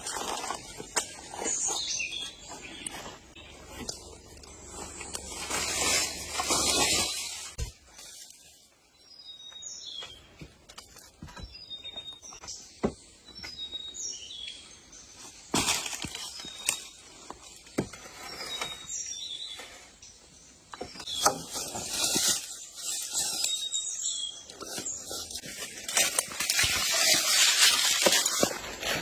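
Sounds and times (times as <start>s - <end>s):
small birds chirping: 0.0s - 7.1s, 8.0s - 28.5s.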